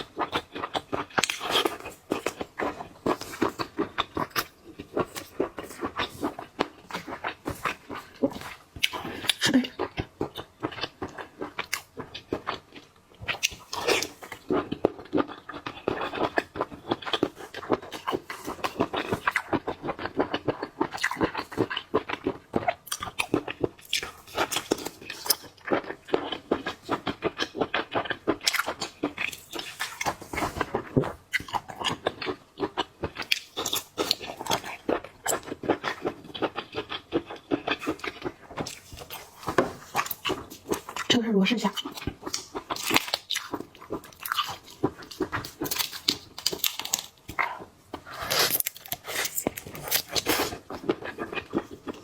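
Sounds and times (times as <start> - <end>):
chewing and crunching: 0.0 - 52.0.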